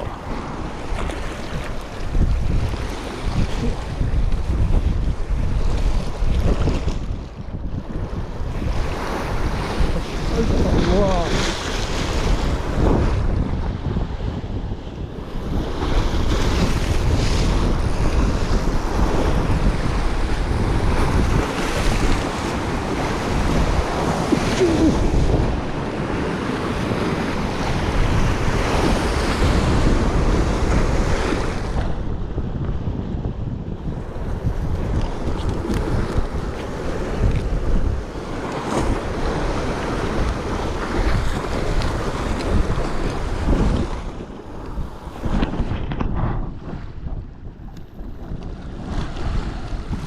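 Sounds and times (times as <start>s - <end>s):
sea waves: 0.0s - 32.6s, 33.8s - 50.0s
wind buffeting microphone: 0.0s - 50.0s.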